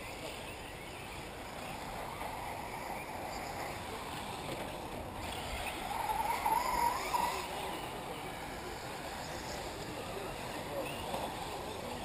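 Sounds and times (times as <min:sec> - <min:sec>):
model cars running: 0:00.0 - 0:12.0.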